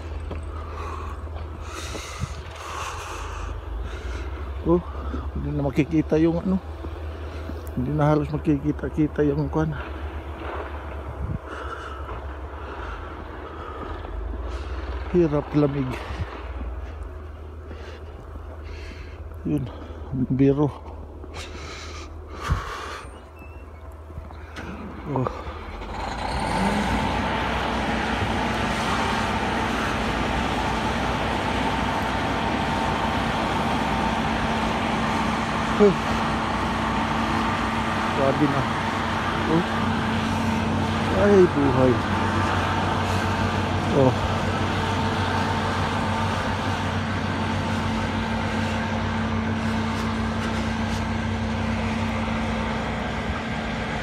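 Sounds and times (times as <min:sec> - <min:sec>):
engine-like rumble and hiss: 0:00.0 - 0:54.0.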